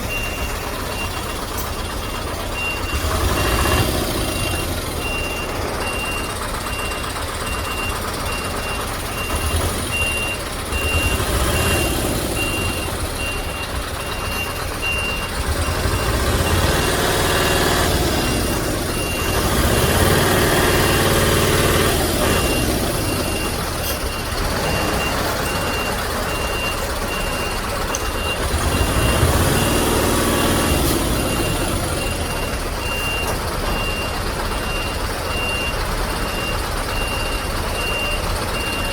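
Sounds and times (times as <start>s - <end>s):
diesel engine running: 0.0s - 38.9s
reversing alarm beeping: 0.0s - 38.9s.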